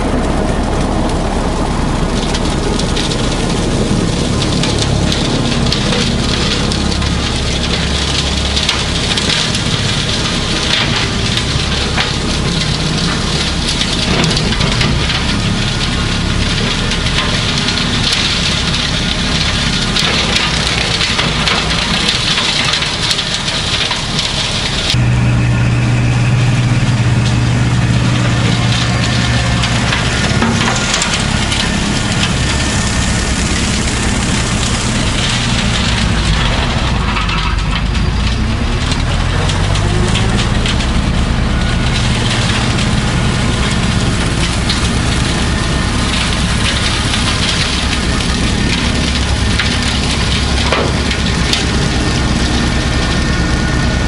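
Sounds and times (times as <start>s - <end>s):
deep steady hum: 0.0s - 54.0s
tractor diesel engine running: 0.0s - 54.0s.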